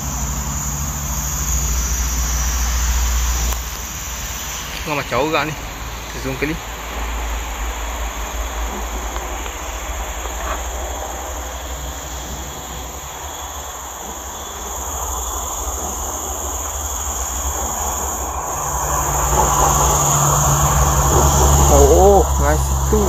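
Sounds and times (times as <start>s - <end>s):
distant engine rumble: 0.0s - 23.0s
insects chirring: 0.0s - 23.0s.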